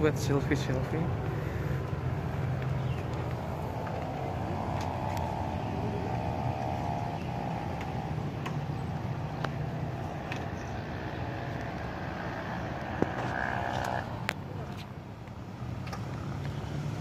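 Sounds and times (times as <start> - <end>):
road traffic engine rumble: 0.0 - 17.0
vehicle engine passing: 0.0 - 17.0.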